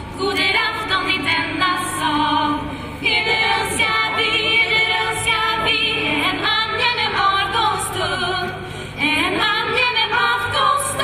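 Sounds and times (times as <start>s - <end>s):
young women singing together: 0.0s - 11.0s.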